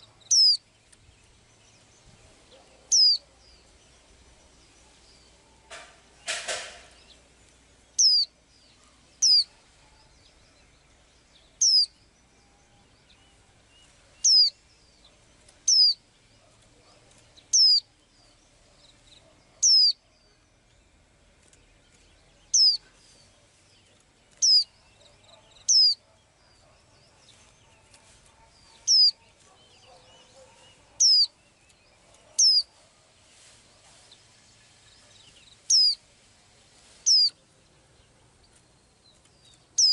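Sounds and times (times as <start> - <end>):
rustle: 0.0 - 25.9, 26.9 - 39.9
small bird chirping: 0.0 - 36.1, 36.8 - 39.9.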